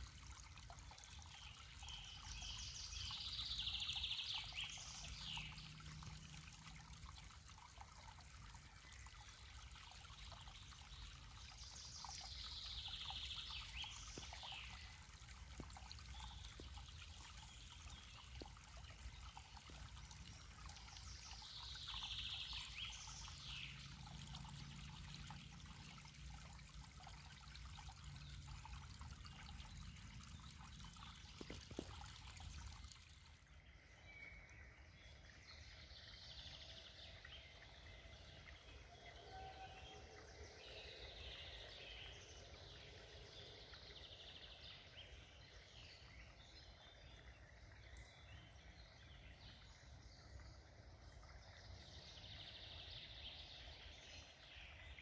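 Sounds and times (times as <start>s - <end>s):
faint trickling water: 0.0s - 55.0s.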